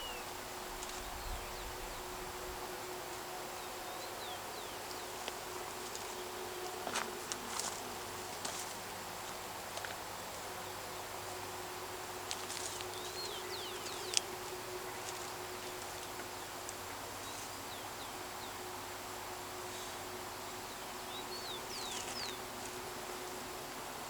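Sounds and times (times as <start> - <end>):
insect drone: 0.0 - 24.0.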